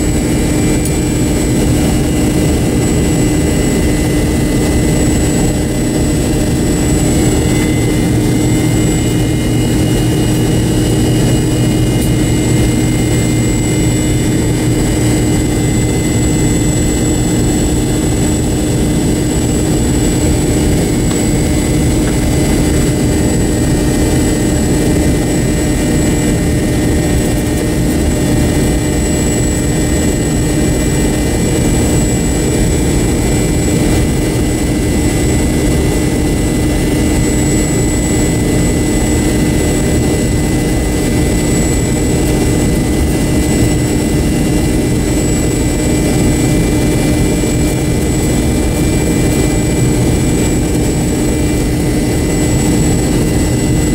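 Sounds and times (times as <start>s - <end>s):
jet engines droning: 0.0s - 53.9s.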